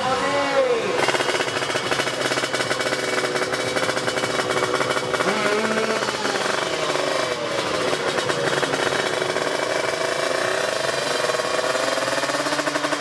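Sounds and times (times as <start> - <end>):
two-stroke motorcycle engine revving: 0.0 - 13.0.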